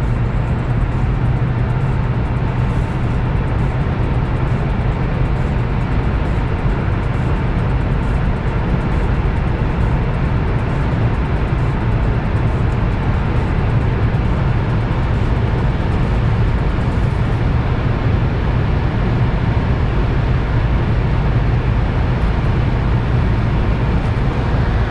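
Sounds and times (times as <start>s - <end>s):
car engine drone: 0.0s - 24.9s
wind and road noise: 0.0s - 24.9s.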